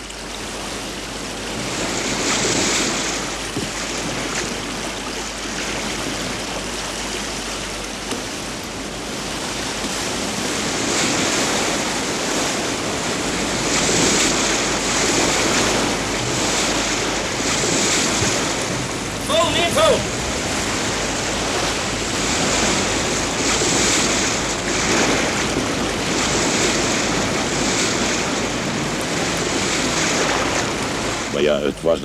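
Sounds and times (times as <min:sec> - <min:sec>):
choppy water rushing against boat: 0:00.0 - 0:32.0
wind: 0:00.0 - 0:32.0.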